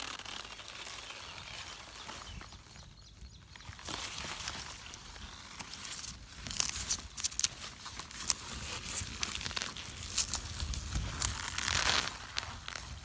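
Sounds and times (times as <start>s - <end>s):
leaf litter and soil crackling: 0.0s - 13.0s.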